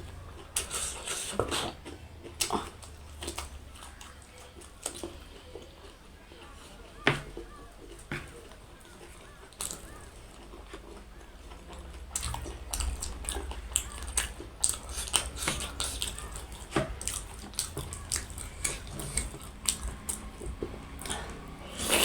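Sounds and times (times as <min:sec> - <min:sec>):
chewing and biting: 0:00.0 - 0:22.0.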